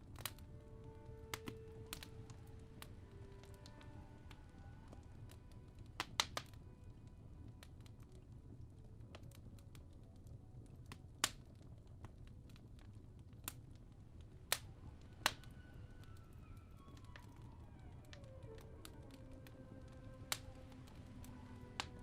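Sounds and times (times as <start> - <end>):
soft music: 0.0 - 22.0
wood fire crackling: 0.0 - 22.0.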